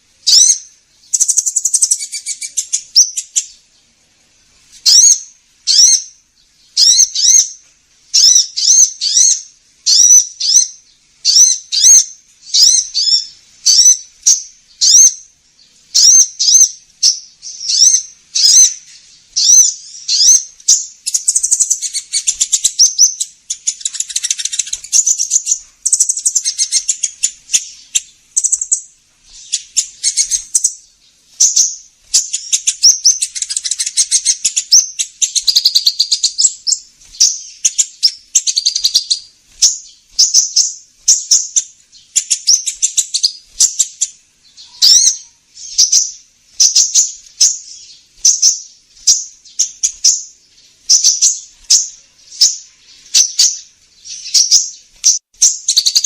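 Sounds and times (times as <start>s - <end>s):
fast dense twittering trill: 0.0s - 3.9s, 4.8s - 56.0s
high sharp bird chirps: 0.2s - 3.7s, 4.8s - 56.0s.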